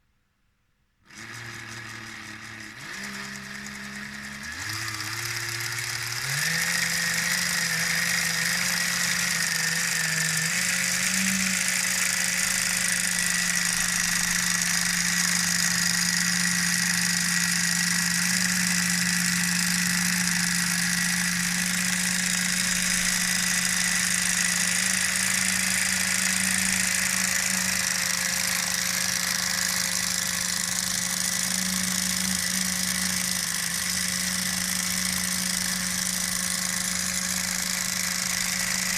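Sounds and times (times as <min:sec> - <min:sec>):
toy train motor whining: 0:01.1 - 0:38.9.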